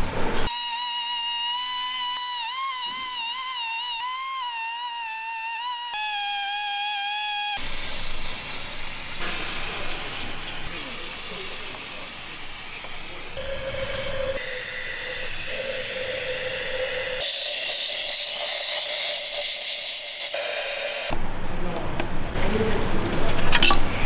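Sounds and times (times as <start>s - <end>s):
aerosol spray hissing: 1.1s - 21.1s.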